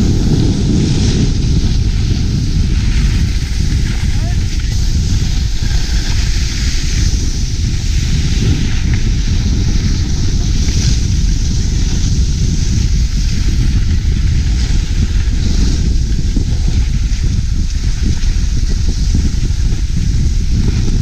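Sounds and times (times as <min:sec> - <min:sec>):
skis scraping on packed snow: 0:00.0 - 0:21.0
wind buffeting microphone: 0:00.0 - 0:21.0.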